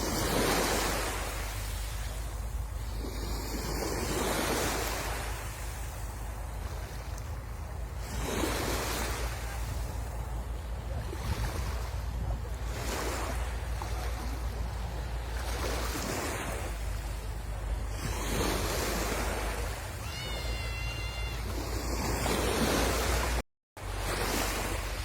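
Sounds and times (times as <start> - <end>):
wind buffeting microphone: 0.0 - 20.0
sea waves breaking on beach: 0.0 - 25.0.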